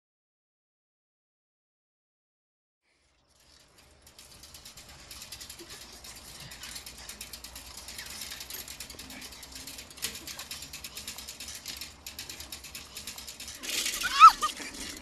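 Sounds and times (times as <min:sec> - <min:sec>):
rapid high-pitched clicking: 0:03.0 - 0:15.0.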